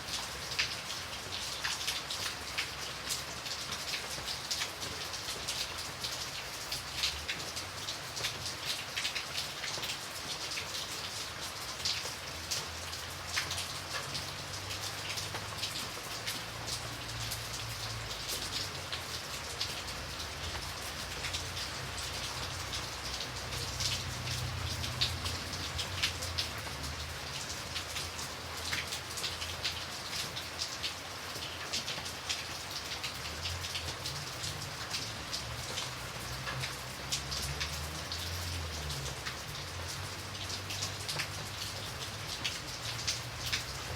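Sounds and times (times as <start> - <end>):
rain drops pattering: 0.0 - 43.9.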